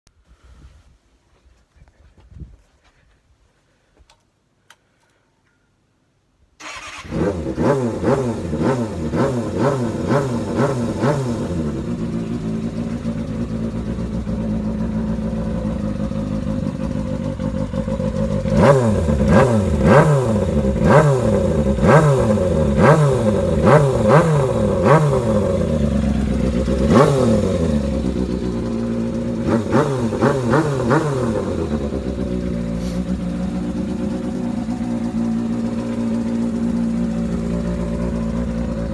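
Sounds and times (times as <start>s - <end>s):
motorcycle engine revving and idling: 6.6s - 38.9s.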